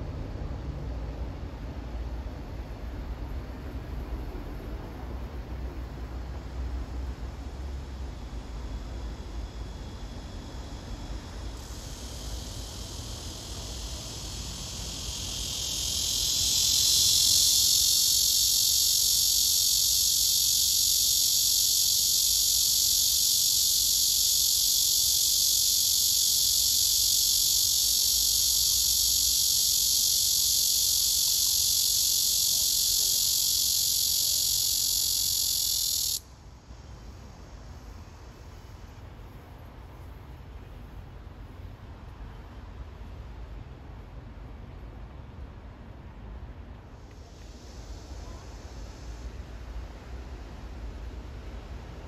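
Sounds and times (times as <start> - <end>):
cicada high-pitched buzz: 2.4 - 40.8, 46.9 - 52.0.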